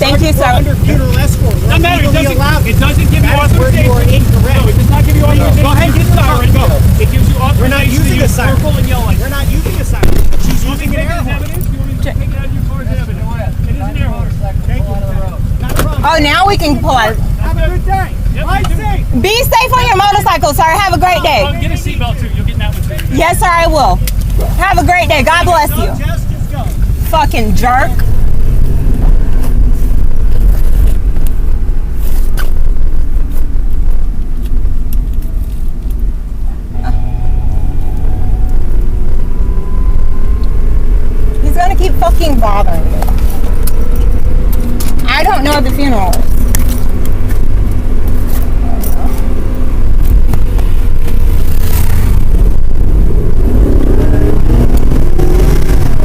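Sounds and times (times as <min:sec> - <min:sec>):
vehicle engine and road noise: 0:00.0 - 0:56.0
wind buffeting microphone: 0:00.0 - 0:56.0.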